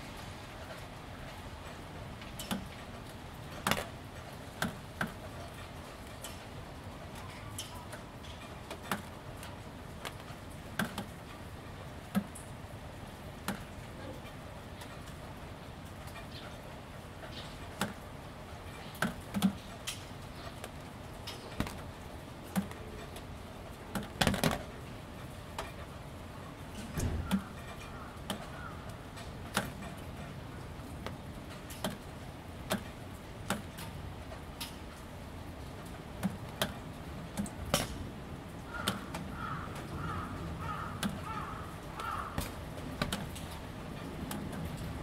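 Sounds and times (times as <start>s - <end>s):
light rain: 0.0s - 45.0s
raindrops ticking on a sill: 0.0s - 45.0s.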